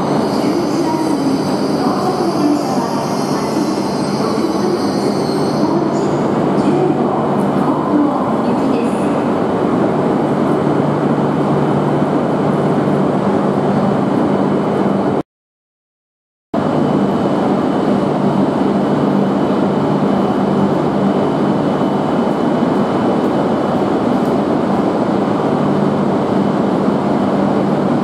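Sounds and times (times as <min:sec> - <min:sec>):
train rolling rumble and hum: 0:00.0 - 0:15.2, 0:16.6 - 0:28.0.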